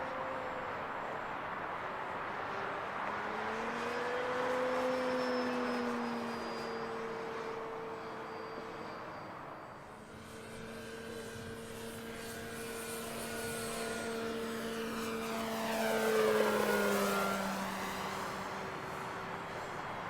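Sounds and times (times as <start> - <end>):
model plane motor whine: 0.0 - 20.0.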